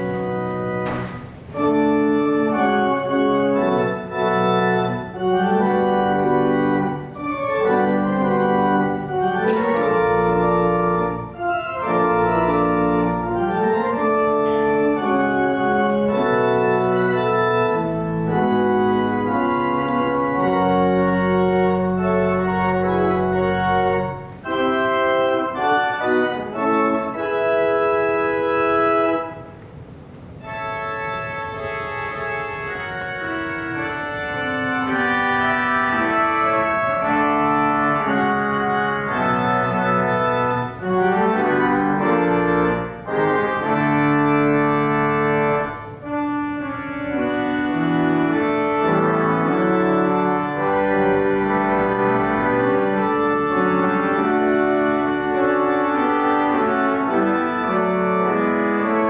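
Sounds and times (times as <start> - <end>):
pipe organ chords: 0.0 - 59.0.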